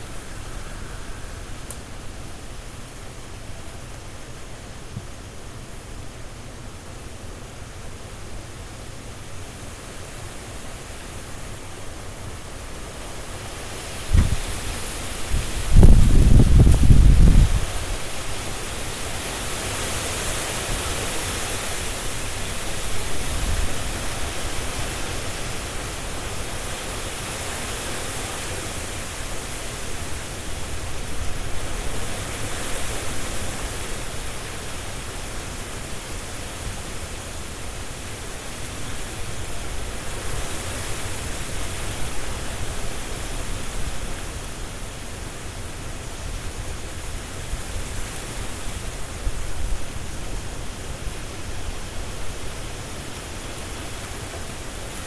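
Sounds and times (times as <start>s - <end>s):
leaves rustling: 0.0s - 55.0s
strong wind through trees: 0.0s - 55.0s.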